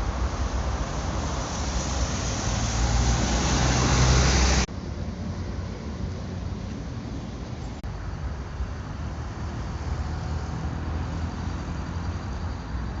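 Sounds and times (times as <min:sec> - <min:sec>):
traffic rumble: 0:00.0 - 0:13.0
tyres hissing on wet road: 0:00.0 - 0:13.0.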